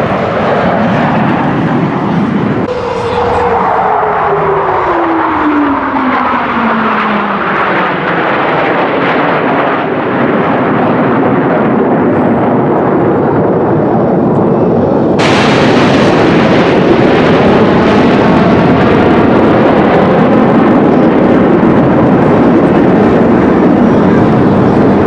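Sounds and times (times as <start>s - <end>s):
jet aircraft noise: 0.0s - 25.0s.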